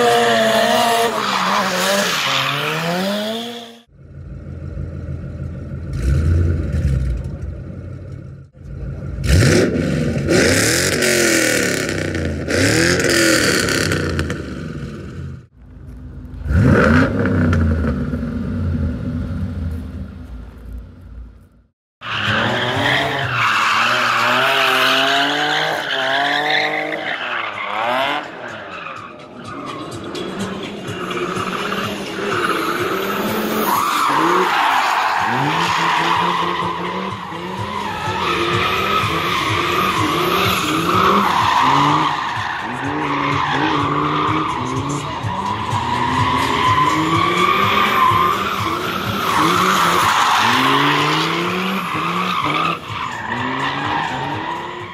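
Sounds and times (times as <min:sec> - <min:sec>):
car engine revving: 0:00.0 - 0:15.5, 0:16.2 - 0:20.7, 0:22.1 - 0:54.9.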